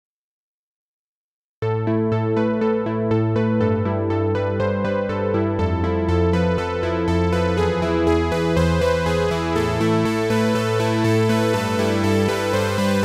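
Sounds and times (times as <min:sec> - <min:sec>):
low synth bass note: 0:01.6 - 0:13.0
synthesizer sustained chords: 0:01.6 - 0:13.0.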